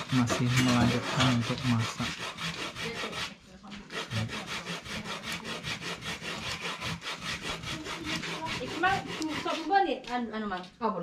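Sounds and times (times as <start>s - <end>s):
rhythmic scraping in a bowl: 0.0s - 11.0s.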